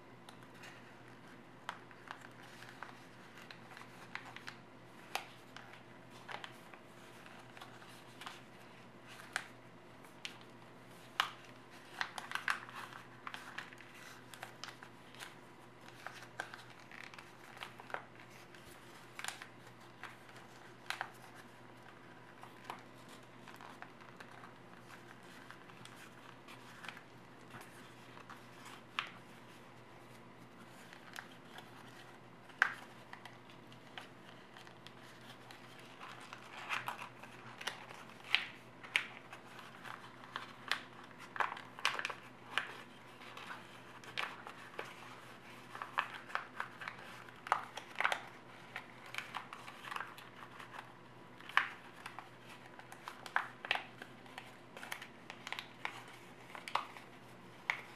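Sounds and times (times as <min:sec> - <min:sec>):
faint steady hum: 0:00.0 - 0:57.9
paper crinkling: 0:00.2 - 0:57.9.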